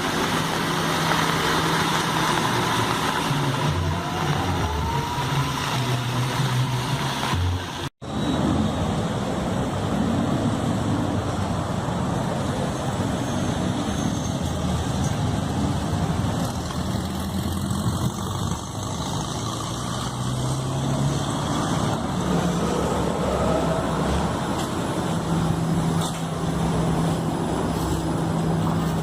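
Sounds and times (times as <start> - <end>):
road noise: 0.0 - 29.0
vehicle engines running: 0.0 - 29.0.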